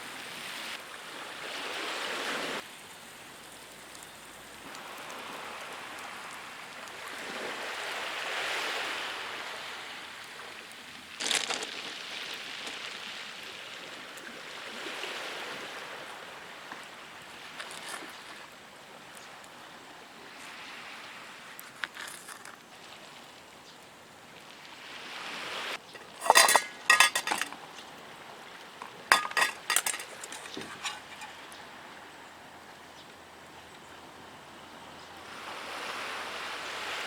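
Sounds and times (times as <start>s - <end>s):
small waves washing onto beach: 0.0s - 37.0s.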